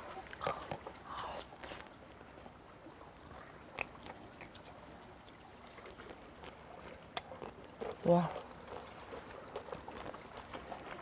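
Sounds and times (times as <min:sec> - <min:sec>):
soft wet chewing: 0:00.0 - 0:11.0.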